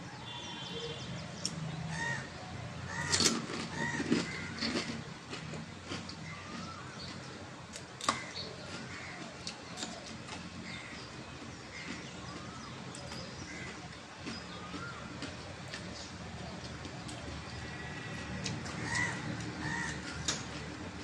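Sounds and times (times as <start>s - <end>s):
birds chirping: 0.0s - 21.0s
person chewing crunchy food: 2.9s - 20.8s.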